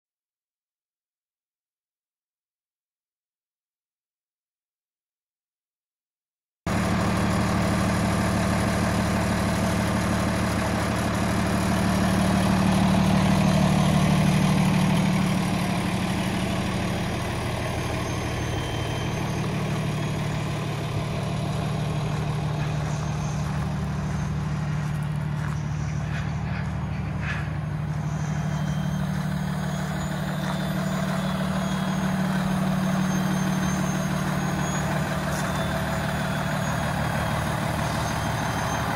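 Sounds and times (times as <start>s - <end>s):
diesel truck engine idling: 6.7s - 38.9s.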